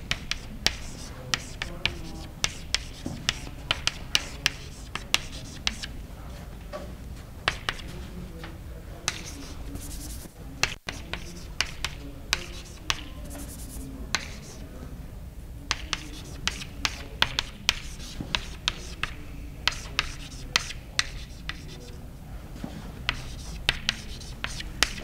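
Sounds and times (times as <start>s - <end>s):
chalk tapping on blackboard: 0.0s - 5.9s, 7.5s - 8.0s, 9.1s - 14.6s, 15.7s - 21.9s, 23.1s - 25.0s
chalk scratching: 0.0s - 6.0s, 7.5s - 8.0s, 9.1s - 14.6s, 15.7s - 22.0s, 22.8s - 25.0s.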